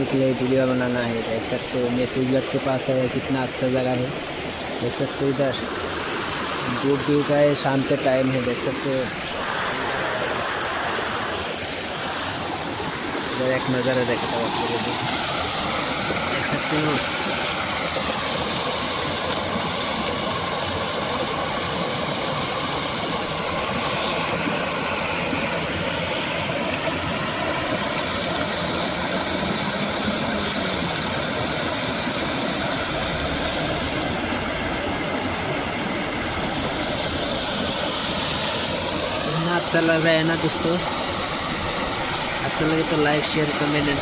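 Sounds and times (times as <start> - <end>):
water rushing from dam: 0.0 - 44.0.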